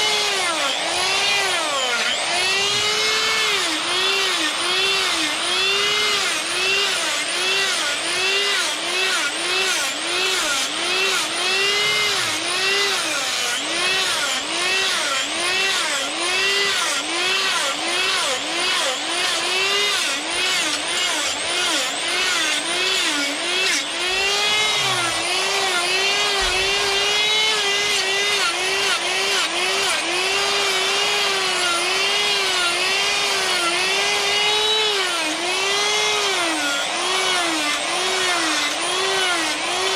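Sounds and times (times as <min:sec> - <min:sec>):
die grinder whining: 0:00.0 - 0:39.9.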